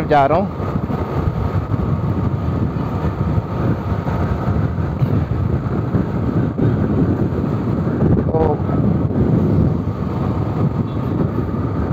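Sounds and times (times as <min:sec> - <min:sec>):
motorcycle engine running: 0:00.0 - 0:11.9
wind buffeting microphone: 0:00.0 - 0:11.9.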